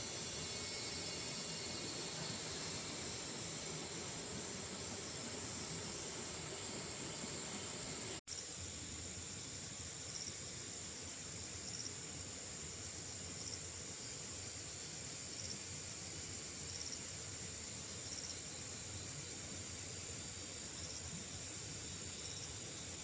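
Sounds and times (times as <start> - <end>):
insect chirps: 0.0 - 23.0
insects droning: 0.0 - 23.0
steady hiss: 0.0 - 23.0.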